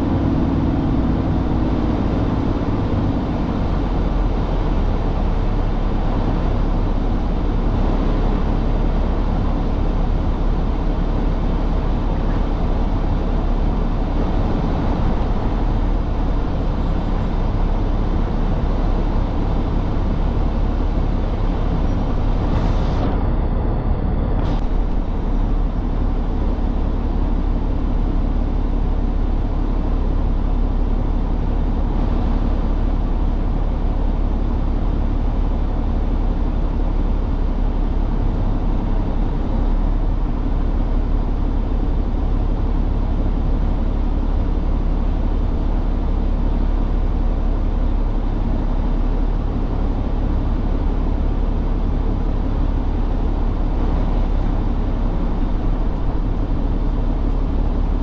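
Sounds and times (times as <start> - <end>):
road noise: 0.0 - 58.0
truck diesel engine rumble: 0.0 - 58.0.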